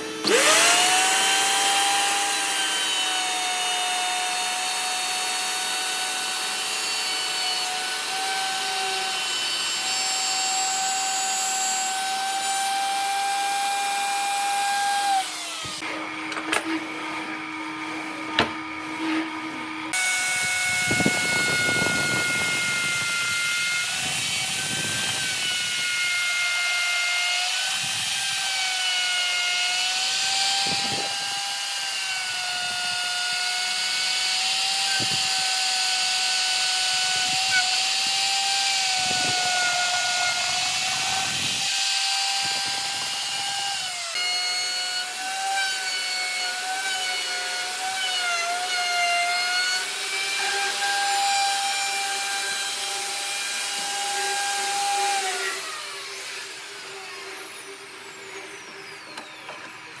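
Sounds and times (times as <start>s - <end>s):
electric power tool whining: 0.0s - 60.0s.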